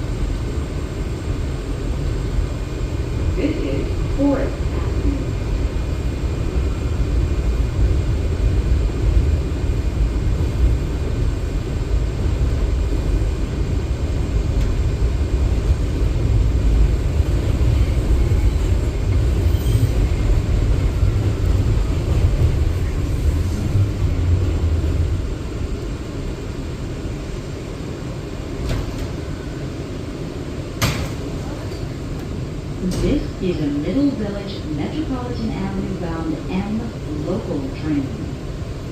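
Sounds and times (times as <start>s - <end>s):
subway train rumbling on rails: 0.0s - 38.9s.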